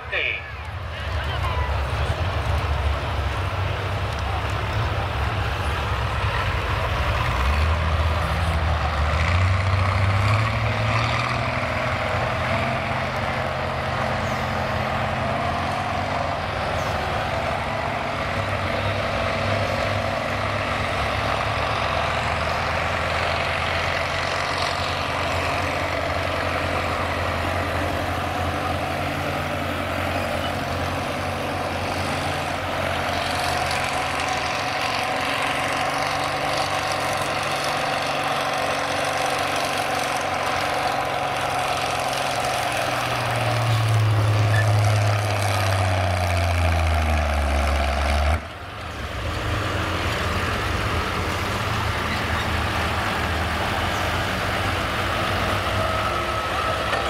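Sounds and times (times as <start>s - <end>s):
tractor engines running: 0.0s - 57.0s.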